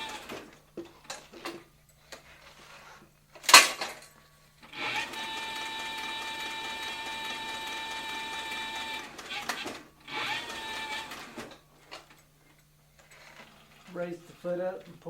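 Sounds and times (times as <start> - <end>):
stitching machine motor whine: 0.0 - 4.0, 4.6 - 15.0.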